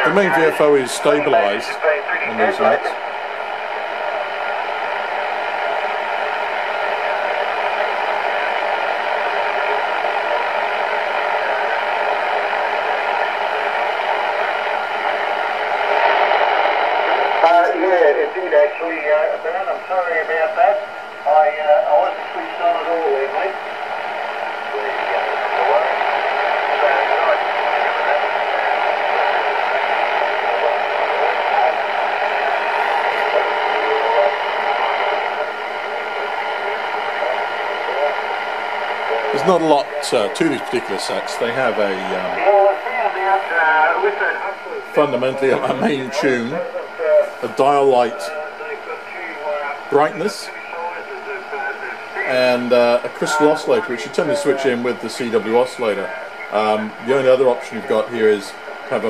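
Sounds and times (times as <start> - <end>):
radio static from speaker: 0.0 - 59.0.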